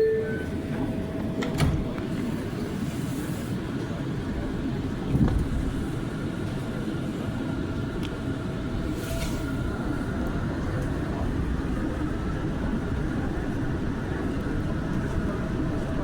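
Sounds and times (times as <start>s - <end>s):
train wheels rumbling on rail: 0.1s - 16.0s.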